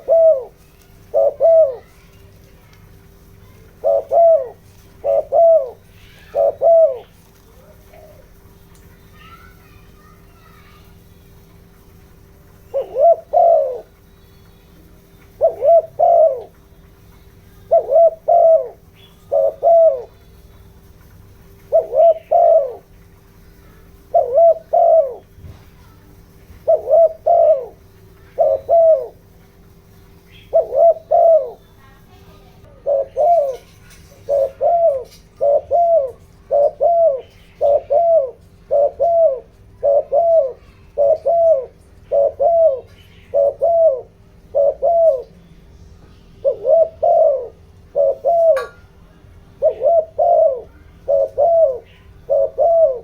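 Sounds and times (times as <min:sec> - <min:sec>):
dove cooing: 0:00.0 - 0:08.6, 0:10.9 - 0:14.1, 0:14.8 - 0:45.4, 0:46.3 - 0:53.0
faint steady hum: 0:00.0 - 0:53.0.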